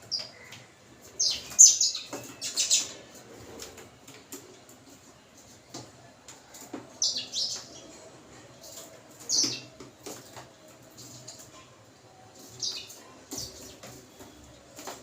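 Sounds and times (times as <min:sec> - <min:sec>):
sparrows chirping: 0:00.0 - 0:05.7, 0:06.5 - 0:11.6, 0:12.3 - 0:15.0.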